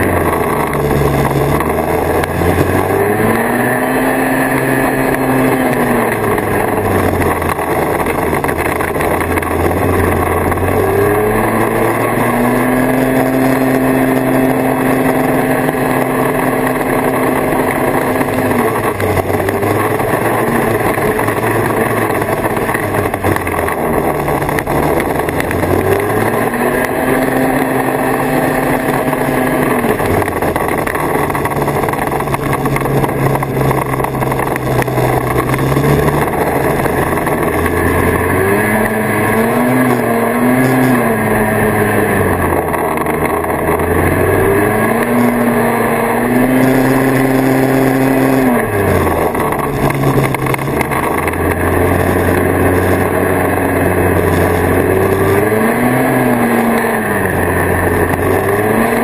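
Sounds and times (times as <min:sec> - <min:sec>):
snowmobile two-stroke engine revving: 0:00.0 - 0:59.0.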